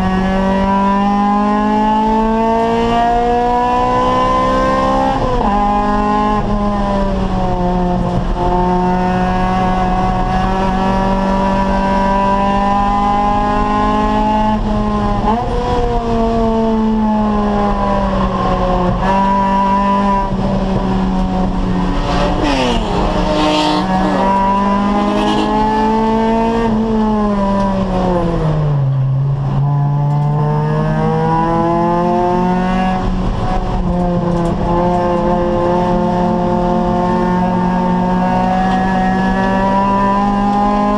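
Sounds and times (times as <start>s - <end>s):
car engine revving hard: 0.0s - 28.5s, 29.7s - 40.9s.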